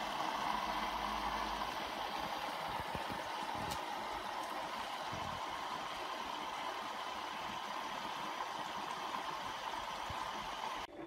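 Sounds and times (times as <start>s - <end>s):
water hissing into washing machine: 0.0s - 10.9s.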